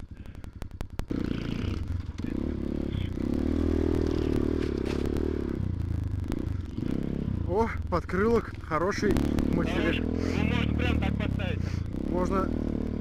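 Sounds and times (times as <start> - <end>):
dirt bike engine revving: 1.1 - 7.6, 8.6 - 13.0.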